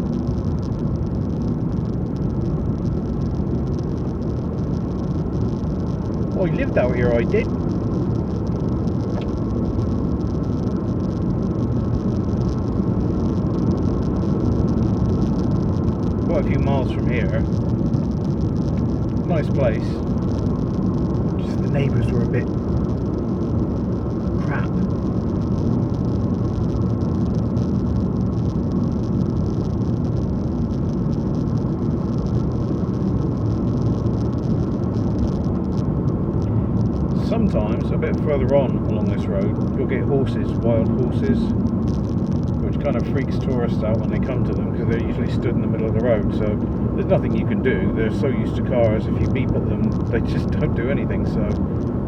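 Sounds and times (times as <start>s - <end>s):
car engine hum: 0.0s - 52.0s.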